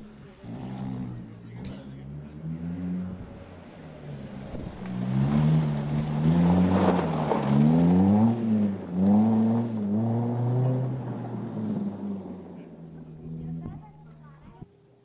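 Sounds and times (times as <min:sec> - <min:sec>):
rally car engine revving: 0:00.0 - 0:14.6.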